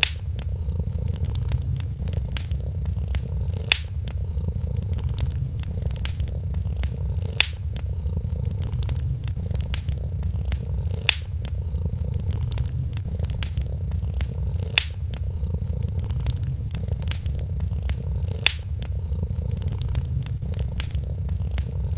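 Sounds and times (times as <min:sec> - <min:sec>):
cat purring: 0:00.0 - 0:21.9
wood fire crackling: 0:00.0 - 0:21.9.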